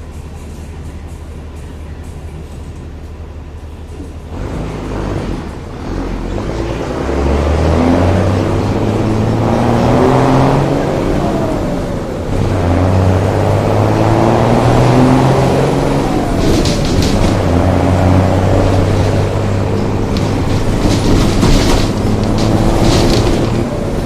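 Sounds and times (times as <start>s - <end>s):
vehicle engine accelerating: 4.0s - 24.0s.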